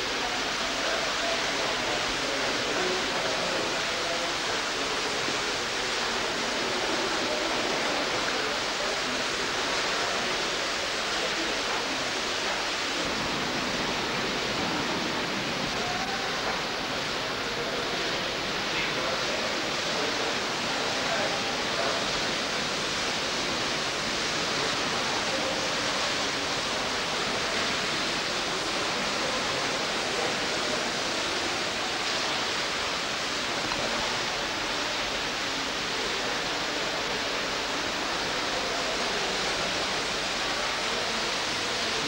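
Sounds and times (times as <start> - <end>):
steady tape hiss: 0.0 - 42.0.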